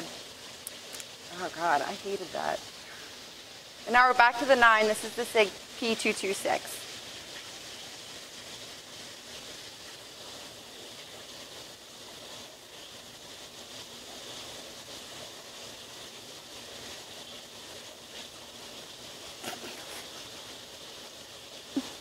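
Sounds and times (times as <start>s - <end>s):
faint room tone hiss: 0.0s - 22.0s.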